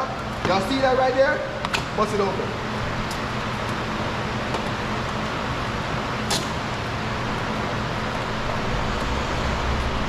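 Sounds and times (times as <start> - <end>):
background hum and hiss: 0.0 - 10.0.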